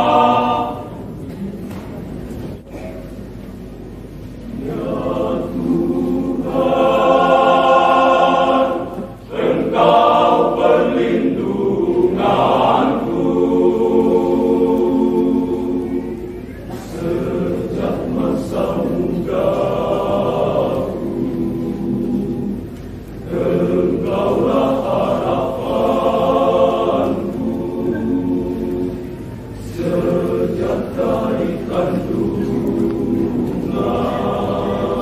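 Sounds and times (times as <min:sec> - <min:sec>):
men's choir singing a hymn: 0:00.0 - 0:01.2, 0:04.5 - 0:35.0.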